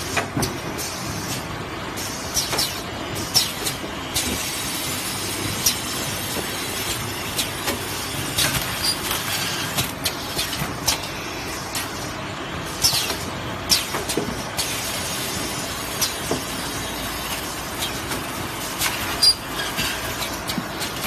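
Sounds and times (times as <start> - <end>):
wrapping machine running: 0.0 - 21.0.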